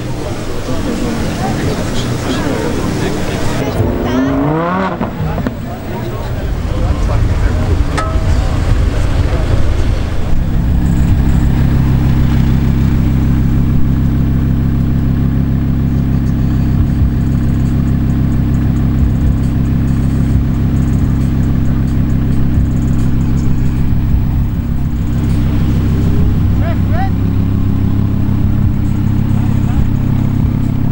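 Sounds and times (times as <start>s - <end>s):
sports car engine idling: 0.0s - 30.9s.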